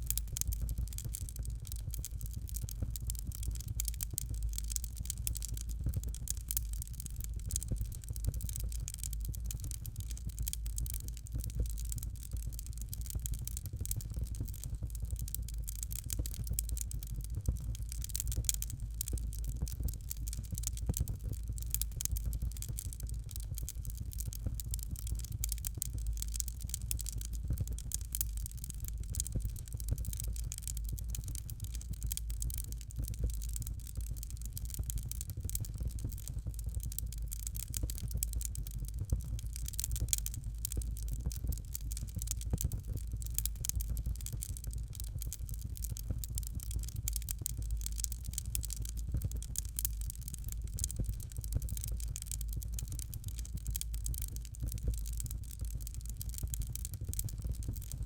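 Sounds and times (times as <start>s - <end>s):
fire crackling in fireplace: 0.0s - 58.0s.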